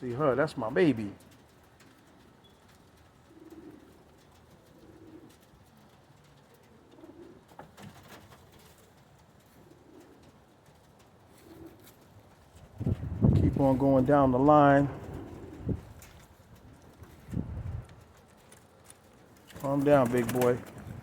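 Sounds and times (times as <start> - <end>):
pigeons cooing: 1.2 - 13.2, 14.5 - 21.0.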